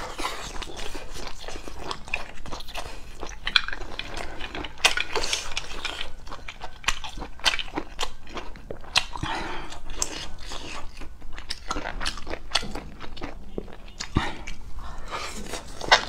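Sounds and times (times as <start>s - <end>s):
close chewing with wet mouth sounds: 0.0s - 16.0s.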